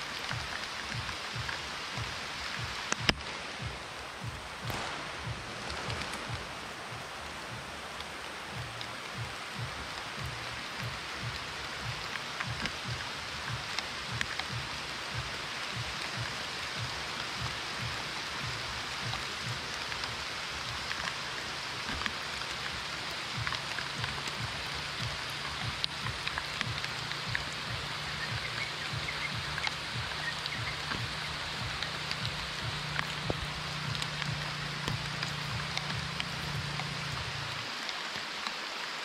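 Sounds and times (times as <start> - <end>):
rain falling on leaves: 0.0 - 39.0
dull taps of drops: 0.2 - 21.1, 23.3 - 37.6.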